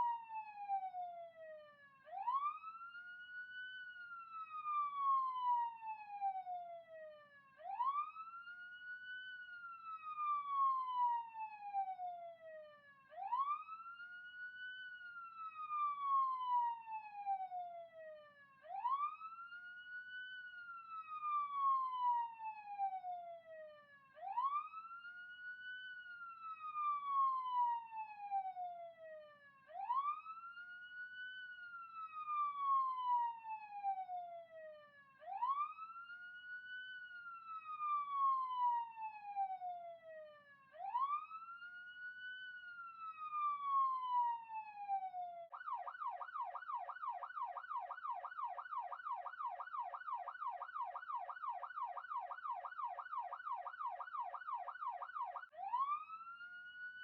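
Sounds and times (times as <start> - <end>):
police siren wailing: 0.0 - 57.0.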